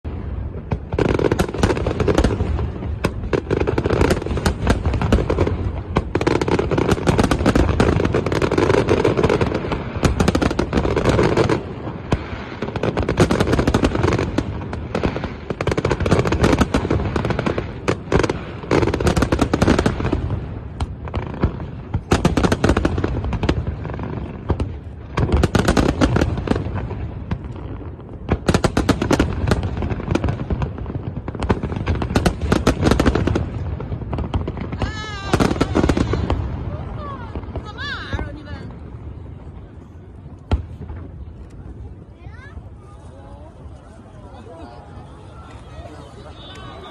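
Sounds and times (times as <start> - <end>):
fireworks cracking and banging: 0.0 - 46.9.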